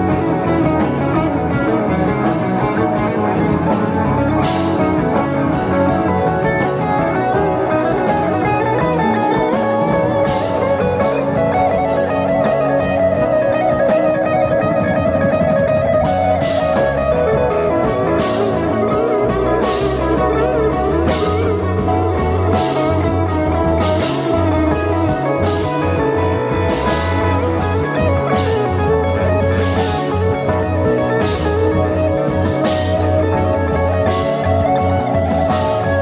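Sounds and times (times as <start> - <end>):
psychedelic rock band playing: 0.0 - 36.0.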